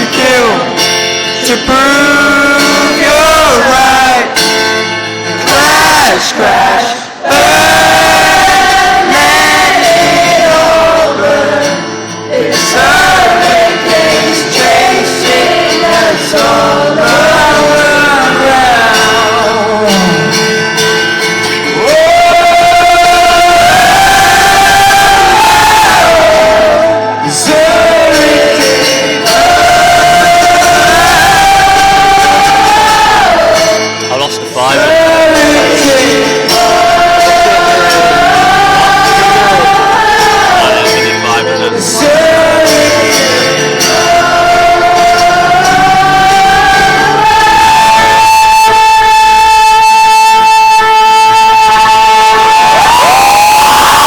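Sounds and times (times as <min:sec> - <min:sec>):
acoustic accompaniment: 0:00.0 - 0:54.0
crowd noise in large hall: 0:00.0 - 0:54.0
person singing long notes: 0:05.4 - 0:20.9, 0:21.7 - 0:54.0.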